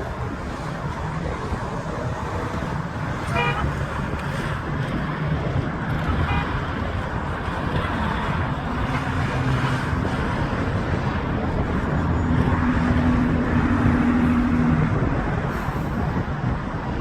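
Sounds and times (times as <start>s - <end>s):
noisy wash: 0.0s - 17.0s.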